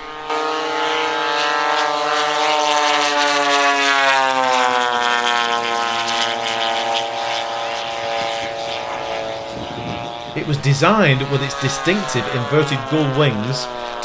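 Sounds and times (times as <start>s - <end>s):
model airplane engine drone: 0.0s - 14.0s.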